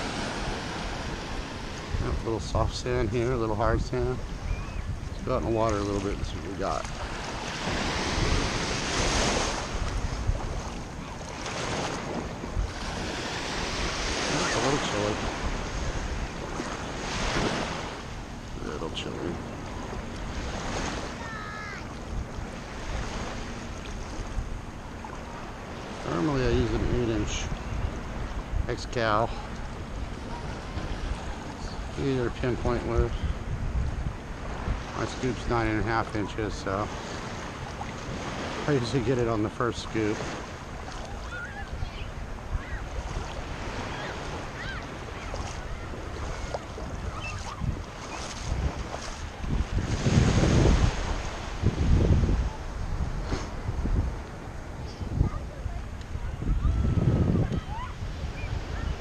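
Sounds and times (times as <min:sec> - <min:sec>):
shallow surf lapping: 0:00.0 - 0:59.0
small waves washing: 0:00.0 - 0:59.0
wind buffeting microphone: 0:00.0 - 0:59.0.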